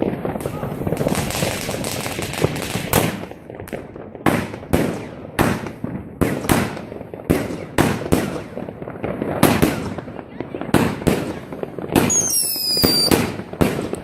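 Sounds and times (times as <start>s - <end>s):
firework bangs with echo: 0.0s - 14.0s
fireworks crackling: 0.0s - 14.0s.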